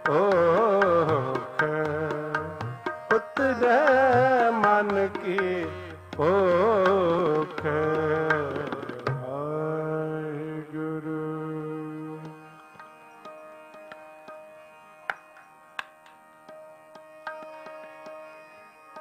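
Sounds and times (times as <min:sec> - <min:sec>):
tabla strokes: 0:00.0 - 0:09.4, 0:12.2 - 0:19.0
harmonium: 0:00.0 - 0:19.0.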